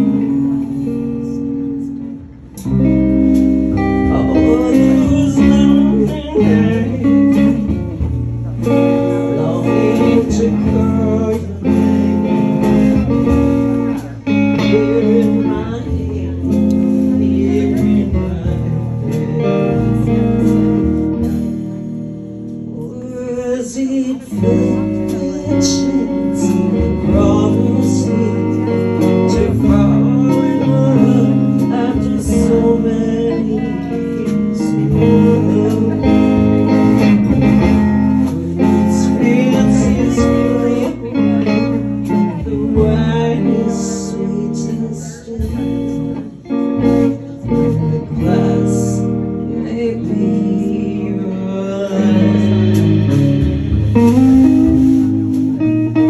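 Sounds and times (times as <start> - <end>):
live band music: 0.0 - 56.0.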